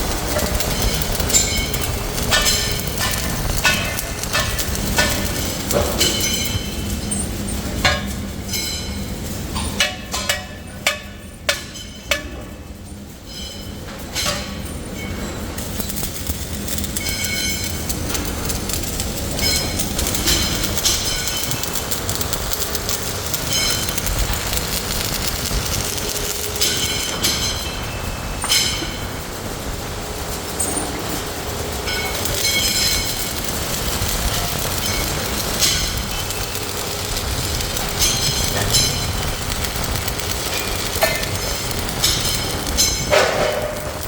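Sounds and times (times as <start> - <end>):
heavy metal parts clanking: 0.0 - 44.0
machinery rumble: 0.0 - 44.0.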